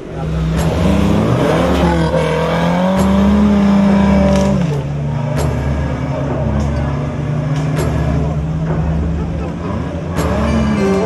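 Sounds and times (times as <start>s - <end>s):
off-road vehicle engine revving: 0.0s - 11.0s
sharp knocks: 0.4s - 11.0s.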